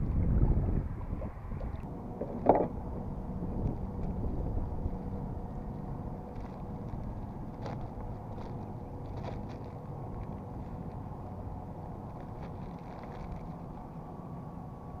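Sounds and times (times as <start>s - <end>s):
kayak water noises: 0.0s - 13.9s
wind buffeting microphone: 0.0s - 14.2s.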